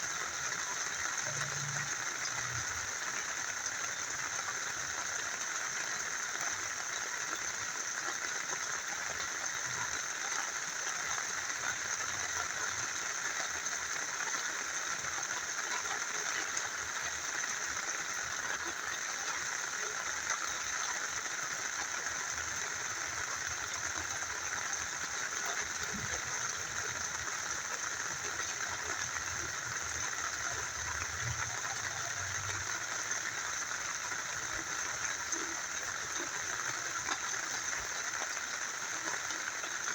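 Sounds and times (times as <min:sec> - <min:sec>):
rain falling: 0:00.0 - 0:39.9
small river flowing: 0:00.0 - 0:39.9.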